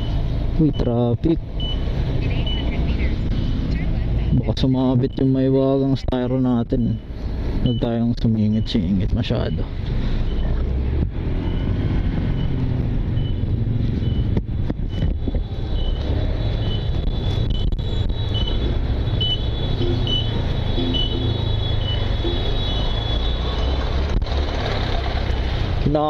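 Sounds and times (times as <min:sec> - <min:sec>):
surrounding traffic: 0:00.0 - 0:26.0
wind: 0:00.0 - 0:26.0.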